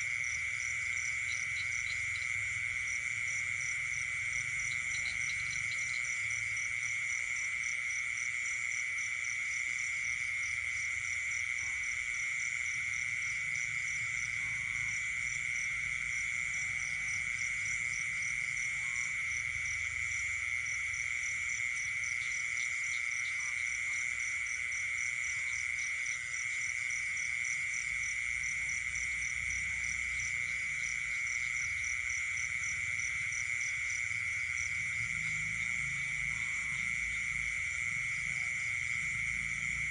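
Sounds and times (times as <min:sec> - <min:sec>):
faint scattered frog calls: 0:00.0 - 0:39.9
high insect drone: 0:00.0 - 0:39.9.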